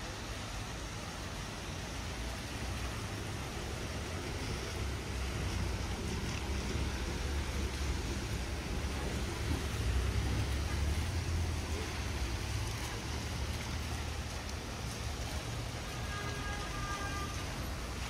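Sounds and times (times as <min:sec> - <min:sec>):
rain hiss: 0:00.0 - 0:18.0
traffic on a wet road: 0:00.0 - 0:18.0.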